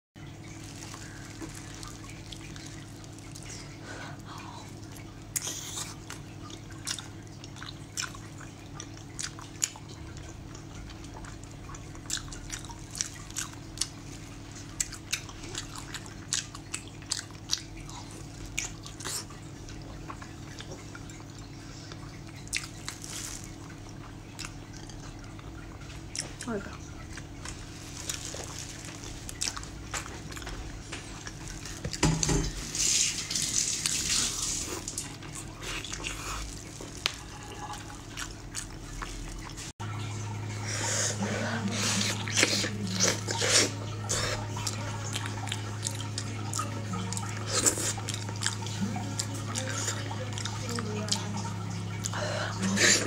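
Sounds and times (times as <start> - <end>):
low hum: 0.2 - 53.0
wet chewing: 0.4 - 39.8, 40.7 - 53.0.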